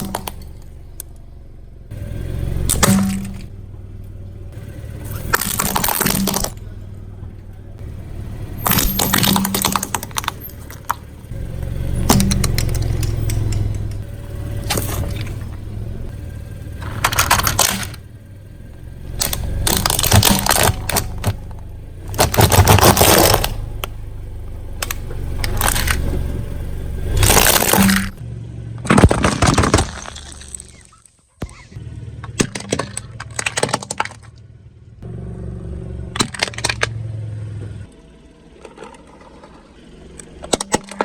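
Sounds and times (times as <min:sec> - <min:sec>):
objects crunching under car tyre: 0:00.0 - 0:01.3, 0:01.9 - 0:28.2, 0:28.8 - 0:34.6, 0:36.1 - 0:37.8, 0:38.4 - 0:41.0
car engine rumble: 0:00.0 - 0:41.0.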